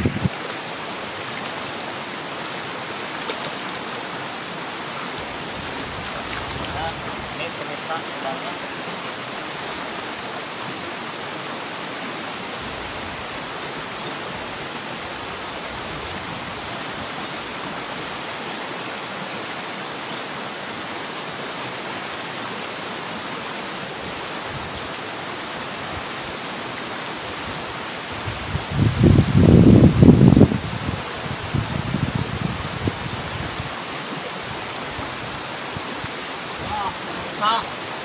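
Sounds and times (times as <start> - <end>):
stream water running: 0.0 - 38.0.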